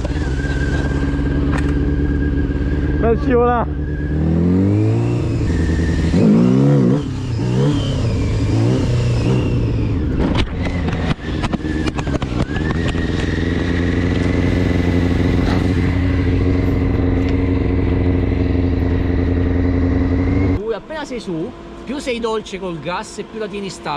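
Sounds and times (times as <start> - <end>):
motorcycle engine idling: 0.0 - 4.4, 8.1 - 23.9
motorcycle engine revving: 0.0 - 23.9.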